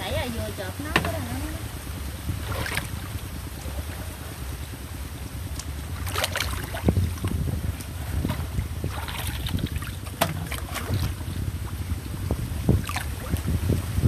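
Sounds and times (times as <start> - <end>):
water sloshing and splashing: 0.0 - 14.0
wind rumble on microphone: 0.0 - 14.0.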